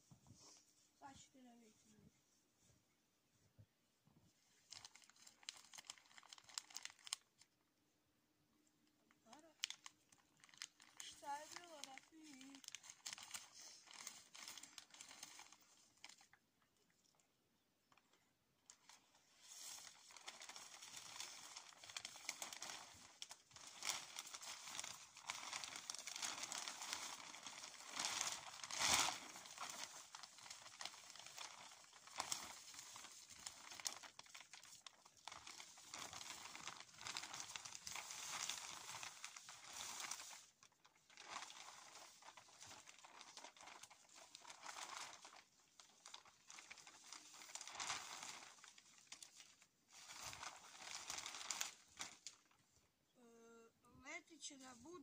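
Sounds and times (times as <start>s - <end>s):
plastic sheeting crinkling: 0.0s - 2.6s, 4.3s - 7.7s, 8.8s - 55.0s.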